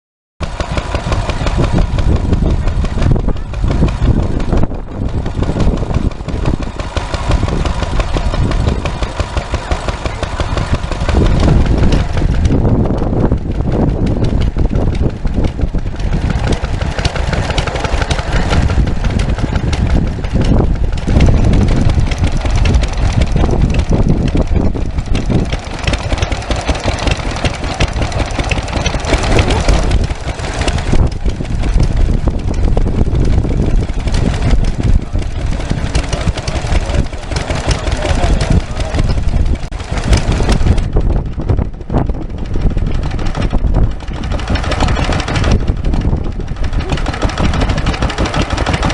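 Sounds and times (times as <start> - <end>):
stationary engines running: 0.4 - 48.9.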